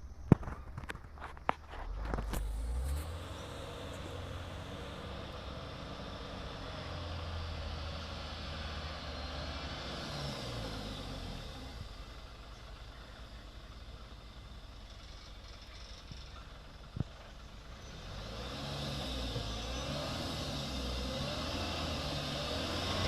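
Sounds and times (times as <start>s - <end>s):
truck diesel engine under load: 1.1s - 23.0s.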